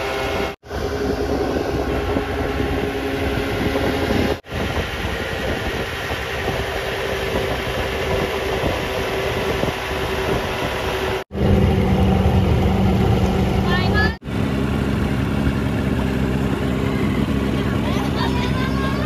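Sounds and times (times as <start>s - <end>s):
outboard motor running: 0.0s - 19.0s
wind: 0.0s - 19.0s.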